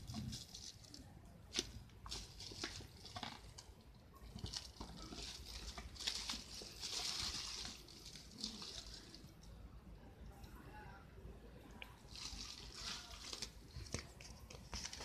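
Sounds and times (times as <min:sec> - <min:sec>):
plastic wrapping crinkling: 0:00.0 - 0:09.5, 0:12.0 - 0:15.0.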